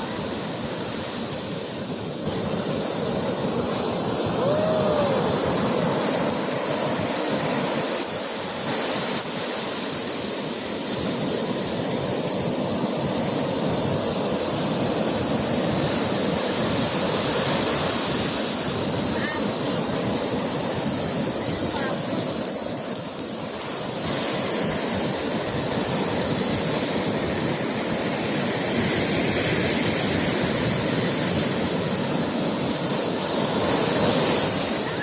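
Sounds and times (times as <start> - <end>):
ocean waves breaking on beach: 0.0 - 35.0.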